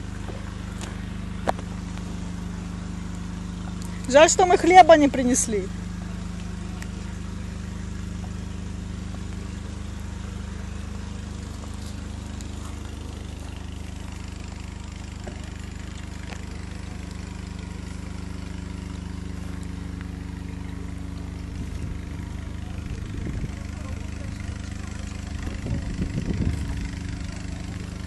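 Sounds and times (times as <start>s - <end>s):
engine humming steadily: 0.0s - 28.0s.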